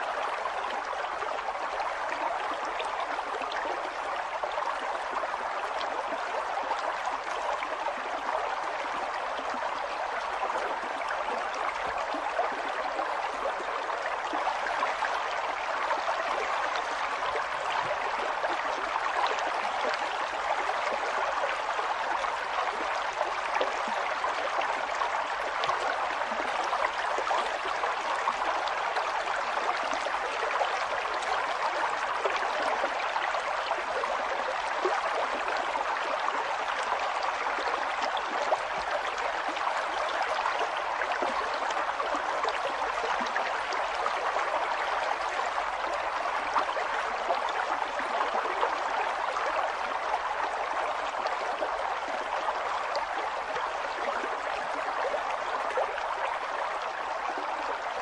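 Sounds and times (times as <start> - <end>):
river water burbling over rocks: 0.0 - 58.0.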